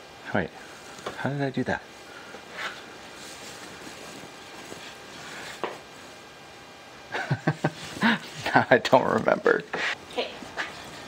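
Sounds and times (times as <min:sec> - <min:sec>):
low rushing background noise: 0:00.0 - 0:11.0.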